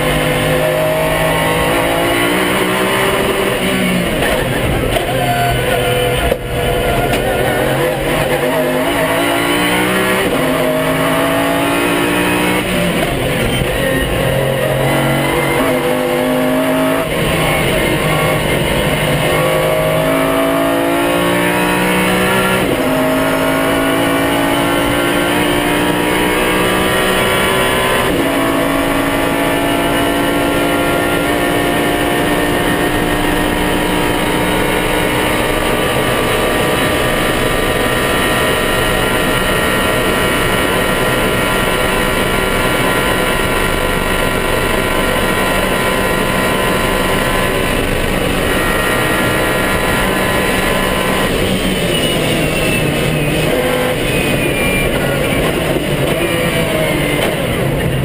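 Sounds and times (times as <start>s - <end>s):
engine running hard at speed: 0.0s - 58.0s.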